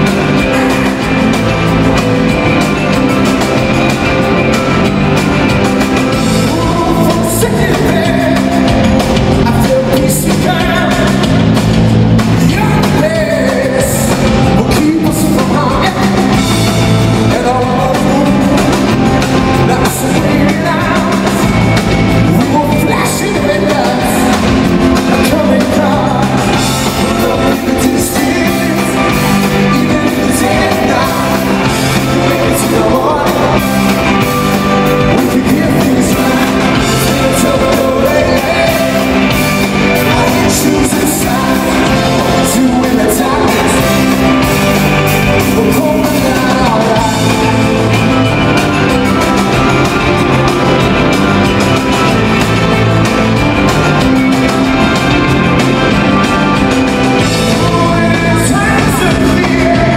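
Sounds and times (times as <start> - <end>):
lead vocals singing: 0.0 - 59.9
live rock band with orchestra: 0.0 - 59.9.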